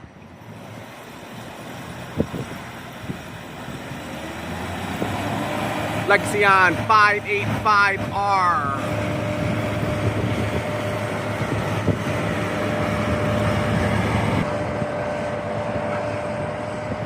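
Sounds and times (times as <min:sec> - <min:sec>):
high whine: 0:00.0 - 0:17.0
vehicle drone: 0:00.0 - 0:17.0.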